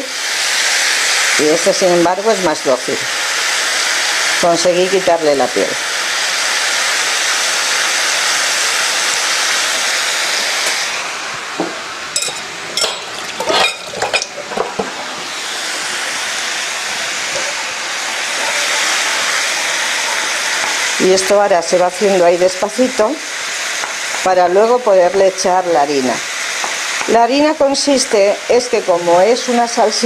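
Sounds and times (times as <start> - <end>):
meat sizzling in a pan: 0.0 - 30.0.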